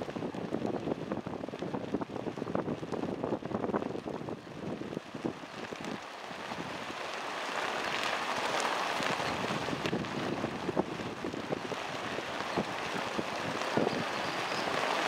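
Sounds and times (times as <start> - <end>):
leaves rustling and crackling: 0.0 - 15.0
wind blowing: 0.0 - 15.0.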